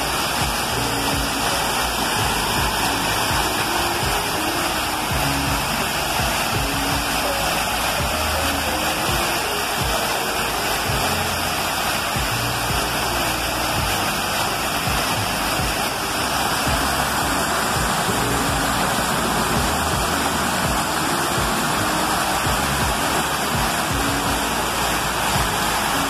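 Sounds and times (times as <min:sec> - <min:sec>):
water splashing down wall fountain: 0:00.0 - 0:26.0.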